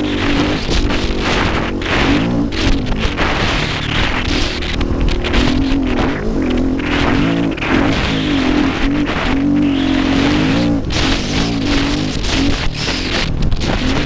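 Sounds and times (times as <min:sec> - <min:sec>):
dirt bike engine revving: 0:00.0 - 0:14.0
wind on microphone: 0:00.0 - 0:14.0.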